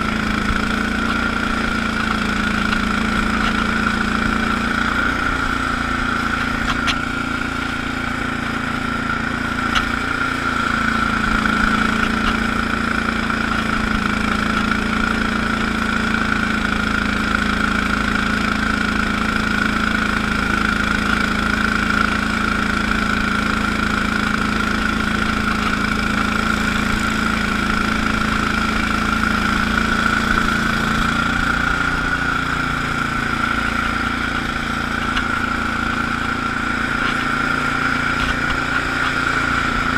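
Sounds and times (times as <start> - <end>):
garden tractor engine running: 0.0 - 39.9
rotary broom sweeping snow: 0.0 - 39.9.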